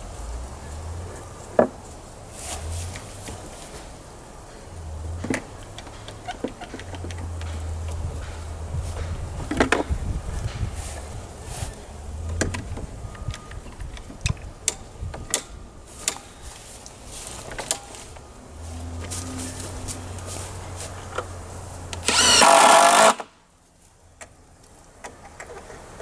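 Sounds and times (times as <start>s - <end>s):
clicks and knocks of wood and tools: 1.5s - 23.3s, 24.2s - 26.0s.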